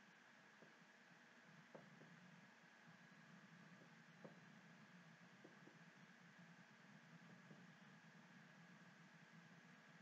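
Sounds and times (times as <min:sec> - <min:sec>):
faint room hum: 0:00.0 - 0:10.0.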